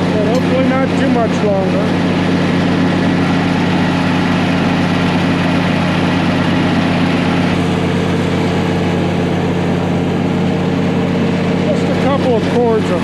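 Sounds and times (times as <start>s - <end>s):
loud vehicle engine running: 0.0s - 13.0s.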